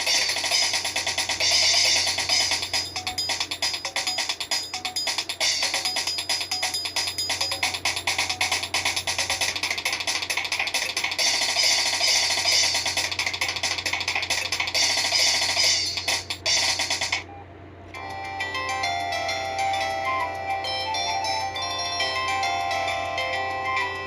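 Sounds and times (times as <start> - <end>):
phone ringtone tune: 0.0 - 16.2, 18.0 - 24.0.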